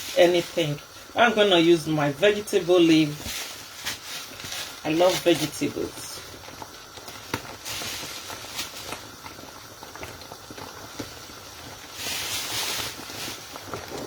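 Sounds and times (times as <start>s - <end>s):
loud hiss: 0.0s - 9.6s, 11.3s - 14.0s
soup simmering and bubbling: 0.0s - 14.0s.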